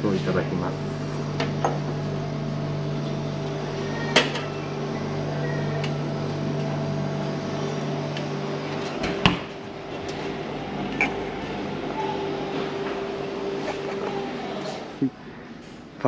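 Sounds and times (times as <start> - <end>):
drink machines humming: 0.0 - 16.0.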